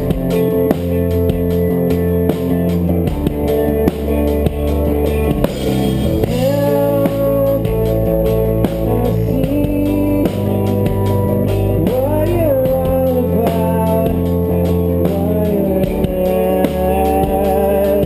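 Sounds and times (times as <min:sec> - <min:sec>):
bass guitar: 0:00.0 - 0:18.0
electric guitar: 0:00.0 - 0:18.0
steady drum beat: 0:00.0 - 0:18.0.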